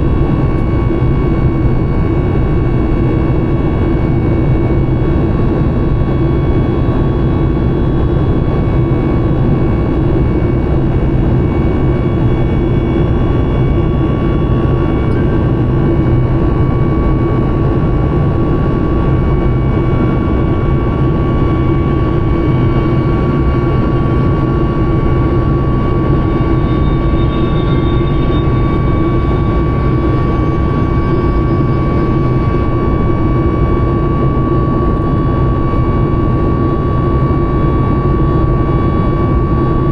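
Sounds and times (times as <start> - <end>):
jet engines heard from cabin: 0.0 - 39.9.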